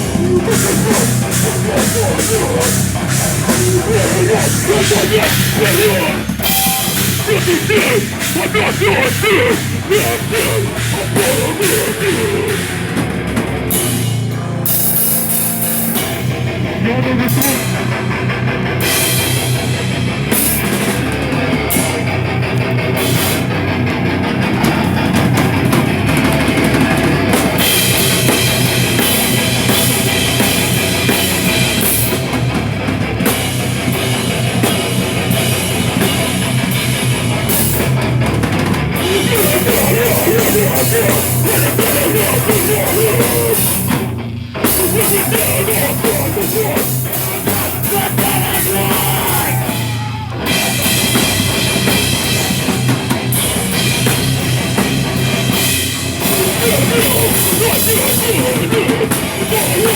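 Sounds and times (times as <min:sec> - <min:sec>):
distorted electric guitars: 0:00.0 - 0:59.9
live rock band playing: 0:00.0 - 0:59.9.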